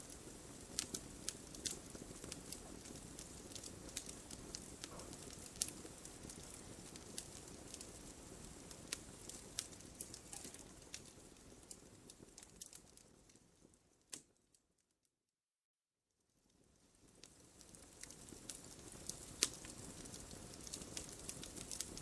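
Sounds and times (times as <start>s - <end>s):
logs crackling and popping: 0.0s - 14.4s, 16.5s - 22.0s
wood fire burning: 0.0s - 14.5s, 16.4s - 22.0s.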